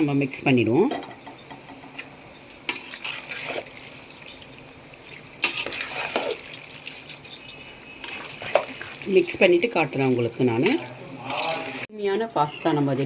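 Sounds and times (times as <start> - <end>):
spoon clinking against pan: 0.9 - 11.6
spoon stirring pasta in sauce: 1.3 - 11.9.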